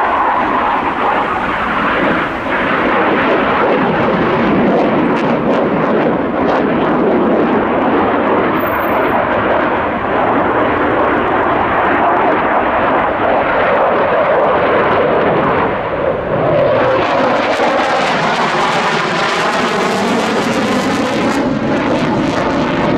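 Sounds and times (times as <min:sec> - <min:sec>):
fighter jet roar: 0:00.0 - 0:22.9
phasing jet whine: 0:00.0 - 0:22.9.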